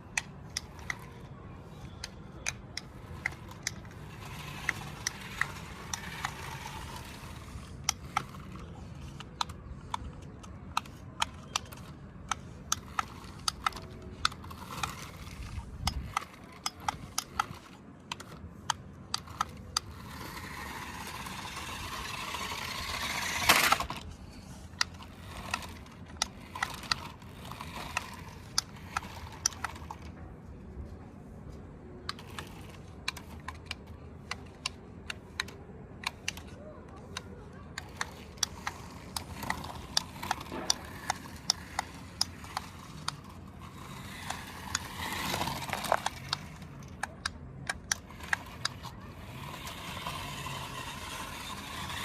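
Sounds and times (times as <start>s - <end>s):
toy electric motor whirring: 0.0s - 31.0s, 31.8s - 52.0s.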